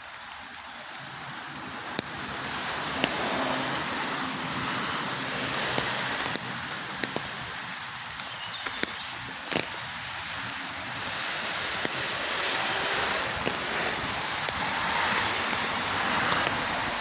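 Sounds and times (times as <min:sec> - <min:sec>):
sharp drips: 0:00.0 - 0:17.0
steady rain hiss: 0:00.0 - 0:17.0.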